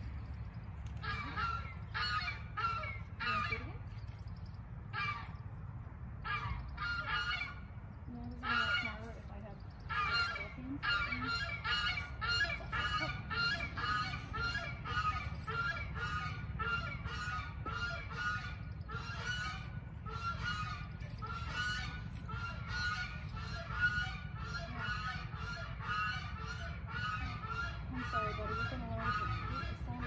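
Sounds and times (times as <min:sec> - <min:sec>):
birds honking calls: 0:00.0 - 0:30.0
steady low rumble: 0:00.0 - 0:30.0.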